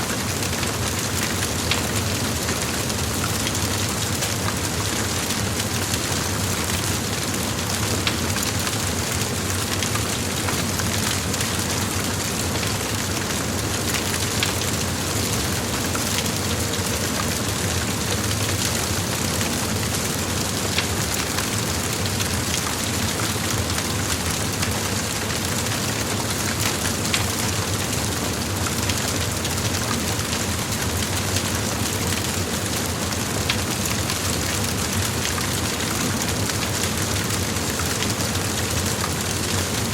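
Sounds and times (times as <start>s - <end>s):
large fire burning: 0.0s - 39.9s.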